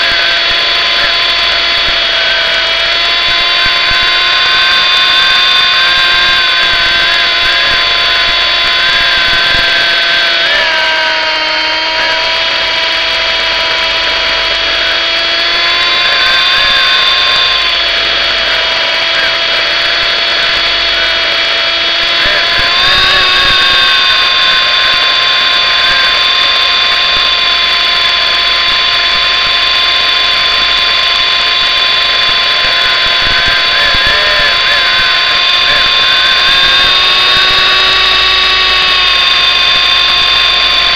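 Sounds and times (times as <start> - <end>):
toy helicopter motor whining: 0.0 - 40.9.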